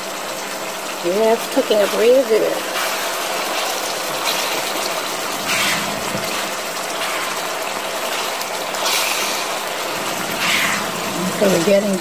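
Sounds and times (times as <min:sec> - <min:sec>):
meat sizzling in a frying pan: 0:00.3 - 0:12.0
spatula stirring: 0:01.5 - 0:11.8.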